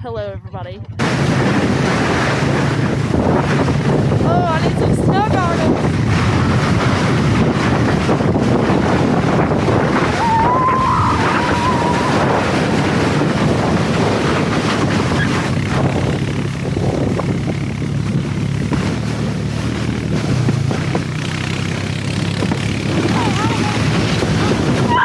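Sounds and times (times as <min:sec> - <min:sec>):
truck engine running: 0:01.0 - 0:25.0
wind rushing over microphone: 0:01.0 - 0:25.0.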